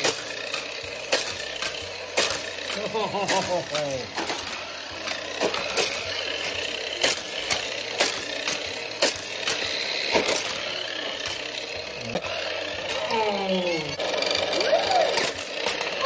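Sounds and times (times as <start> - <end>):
motorized toy booster whirring: 0.0 - 16.0
toy cars clacking on plastic track: 0.0 - 16.0.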